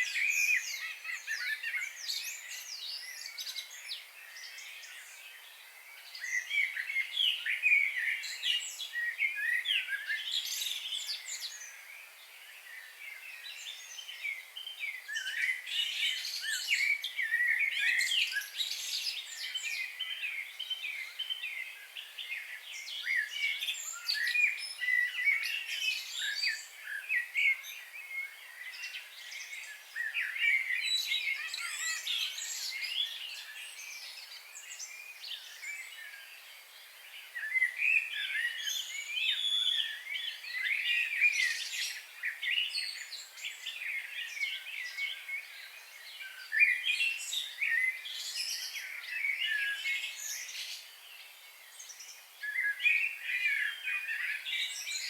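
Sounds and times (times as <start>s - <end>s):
small birds chirping and singing: 0.0s - 55.0s.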